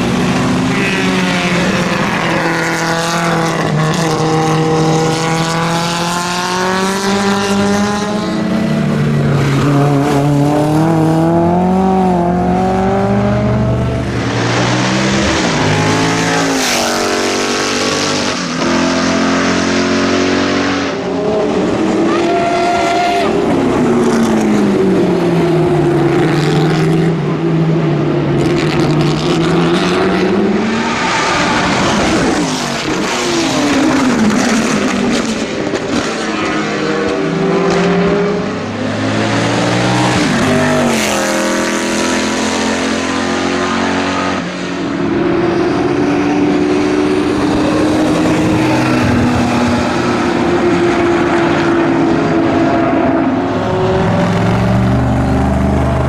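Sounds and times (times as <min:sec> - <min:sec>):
racing car engines revving: 0:00.0 - 0:56.0.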